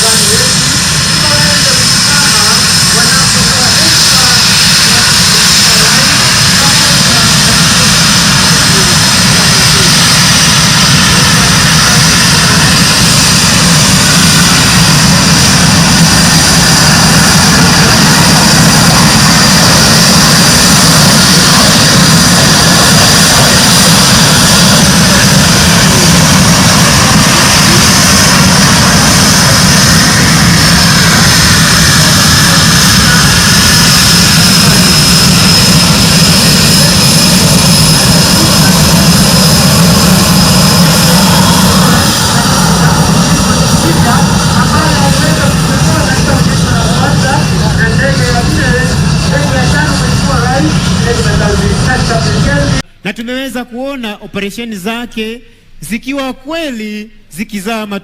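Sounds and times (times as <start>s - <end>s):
high engine whine: 0.0s - 52.9s
jet engines roaring: 0.0s - 52.9s.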